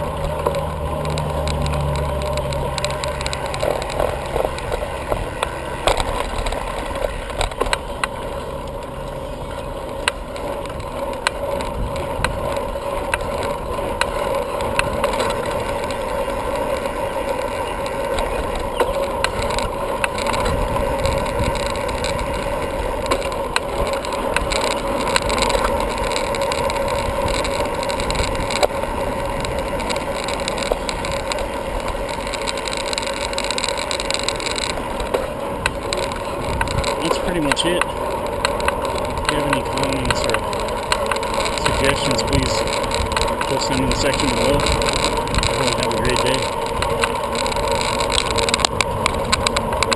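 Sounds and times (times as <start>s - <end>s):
bicycle clicks and rattles: 0.0s - 49.9s
bicycle tyres rolling on road: 0.0s - 49.9s.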